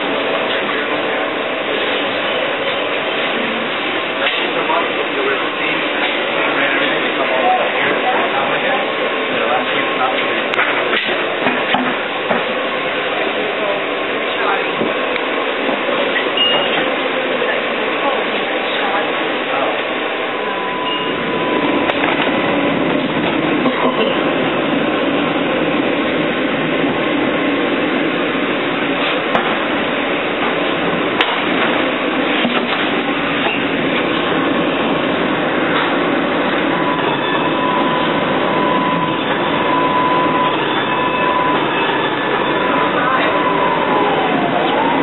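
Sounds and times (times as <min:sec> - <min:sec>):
streetcar rumbling on rails: 0:00.0 - 0:45.0
thin steady whine: 0:00.0 - 0:45.0.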